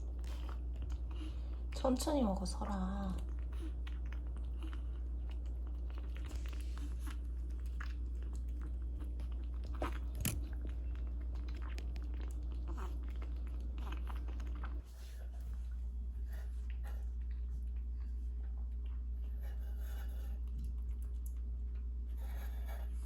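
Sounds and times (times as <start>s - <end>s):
puppy chewing and crunching food: 0.0s - 23.0s
steady low hum: 0.0s - 23.0s.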